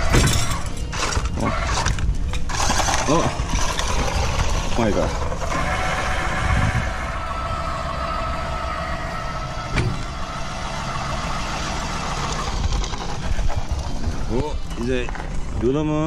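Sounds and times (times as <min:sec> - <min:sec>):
motor running with low rumble: 0:00.0 - 0:15.8.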